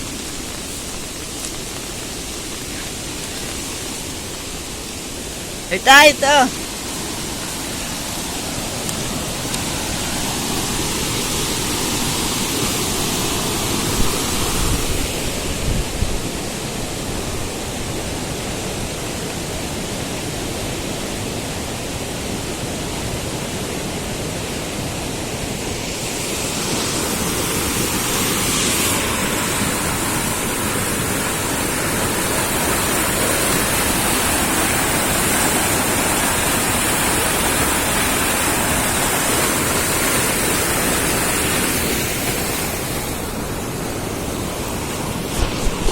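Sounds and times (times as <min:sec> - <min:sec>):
river rushing: 0:00.0 - 0:45.9.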